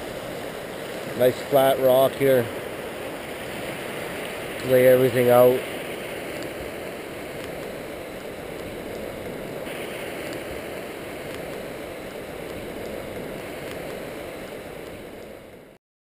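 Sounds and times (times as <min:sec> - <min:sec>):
river rushing over rapids: 0:00.0 - 0:15.8.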